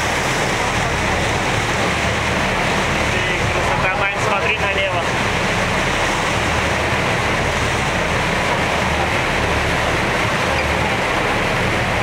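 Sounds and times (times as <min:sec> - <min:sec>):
motor boat engine running: 0:00.0 - 0:12.0
water rushing past hull: 0:00.0 - 0:12.0.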